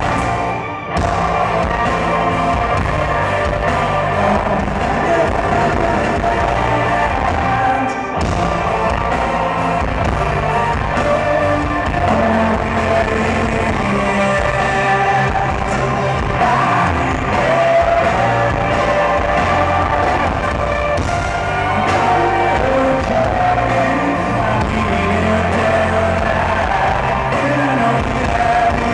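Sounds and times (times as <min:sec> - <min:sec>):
live rock band playing: 0:00.0 - 0:28.9.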